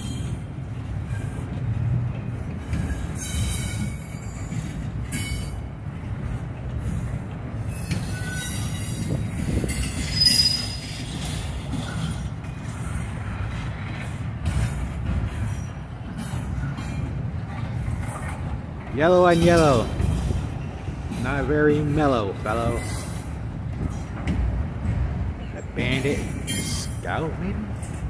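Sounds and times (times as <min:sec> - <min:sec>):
train wheels rumbling on rails: 0:00.0 - 0:28.0
wheels squealing: 0:00.0 - 0:28.0.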